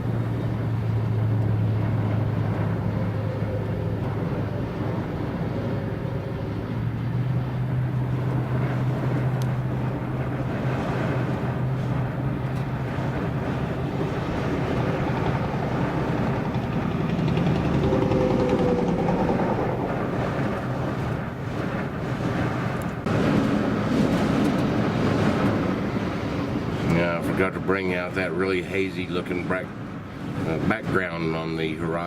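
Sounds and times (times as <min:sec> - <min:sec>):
steady low hum: 0:00.0 - 0:31.6
wind buffeting microphone: 0:00.0 - 0:32.0.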